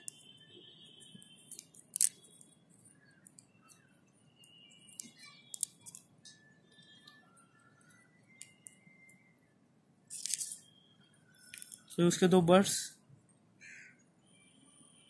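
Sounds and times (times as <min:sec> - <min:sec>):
faint high chirps: 0:00.0 - 0:12.4.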